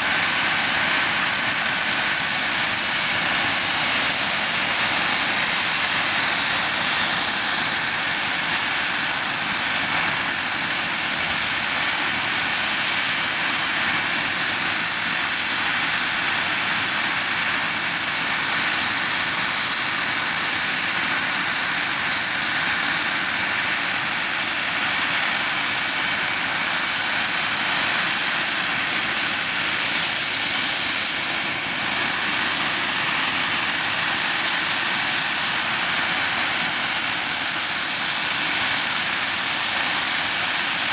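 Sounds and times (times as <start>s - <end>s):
jet engines running with whine: 0.0s - 40.9s.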